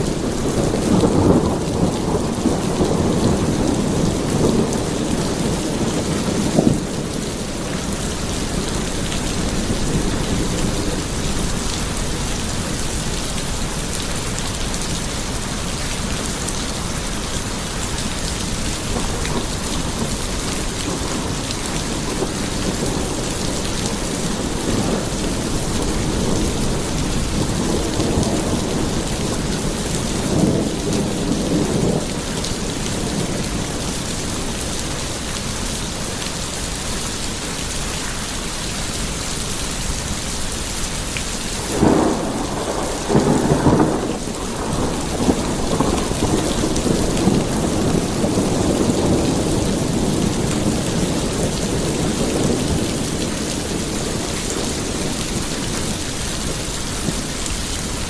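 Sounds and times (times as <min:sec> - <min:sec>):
rolling thunder: 0:00.0 - 0:35.2, 0:41.6 - 0:58.0
heavy rain: 0:00.0 - 0:58.0.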